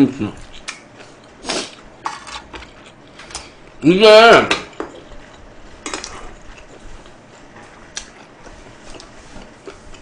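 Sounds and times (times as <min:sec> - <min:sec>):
person chewing food: 0:00.4 - 0:03.8, 0:04.8 - 0:10.0.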